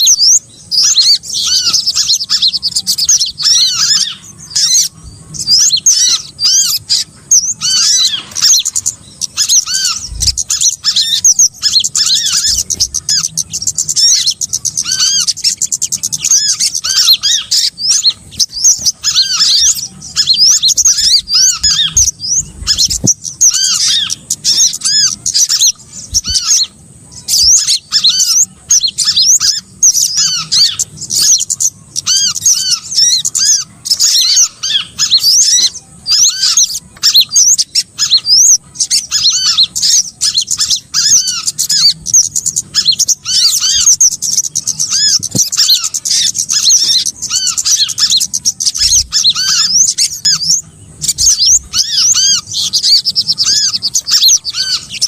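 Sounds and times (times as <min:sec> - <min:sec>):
small songbirds chirping: 0:00.0 - 0:55.0.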